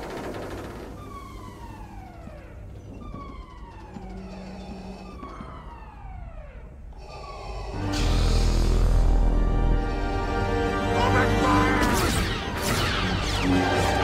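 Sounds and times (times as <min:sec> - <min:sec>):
wailing alarm tone: 0:01.0 - 0:12.6.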